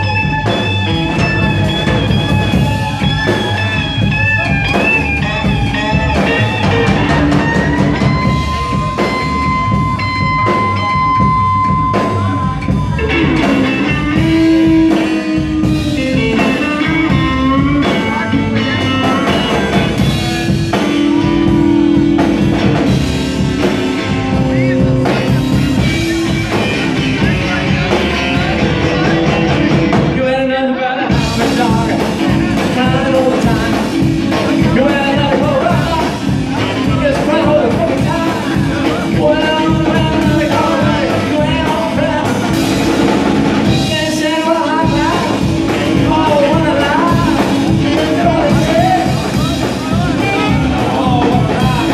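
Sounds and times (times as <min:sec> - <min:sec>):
electric guitar lead: 0:00.0 - 0:51.9
rockabilly band playing: 0:00.0 - 0:51.9.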